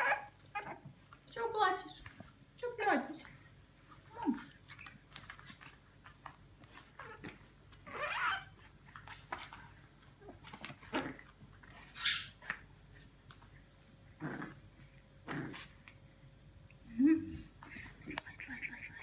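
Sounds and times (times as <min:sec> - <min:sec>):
puppies play-wrestling noises: 0:00.0 - 0:16.3.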